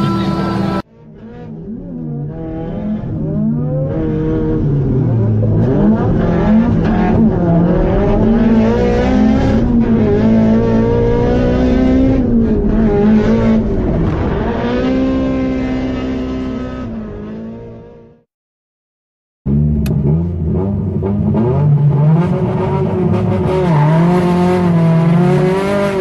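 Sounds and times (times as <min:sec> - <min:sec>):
car engine revving: 0:00.0 - 0:18.2, 0:19.5 - 0:26.0.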